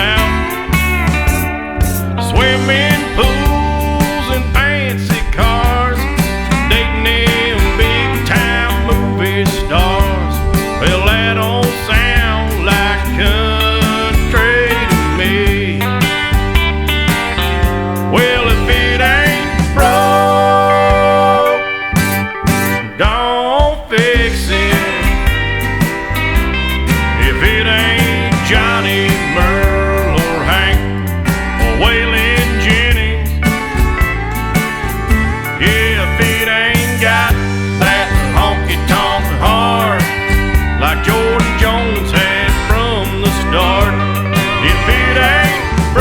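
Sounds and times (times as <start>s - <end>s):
country song instrumental: 0.0s - 46.0s.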